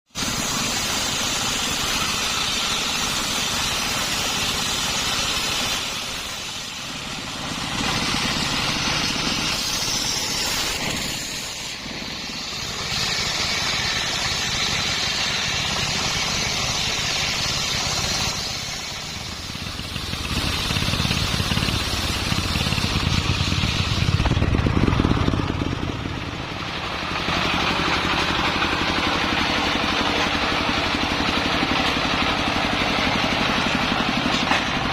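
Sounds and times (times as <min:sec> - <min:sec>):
circular saw cutting wood: 0:00.1 - 0:34.9.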